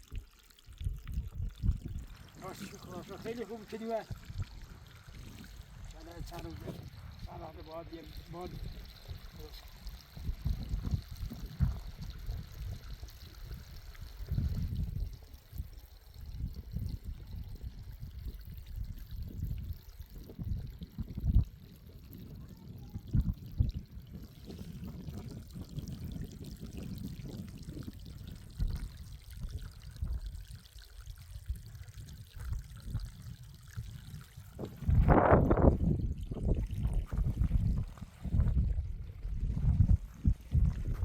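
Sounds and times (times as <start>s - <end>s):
water pouring and trickling: 0.0s - 41.0s
water splashes: 0.0s - 41.0s.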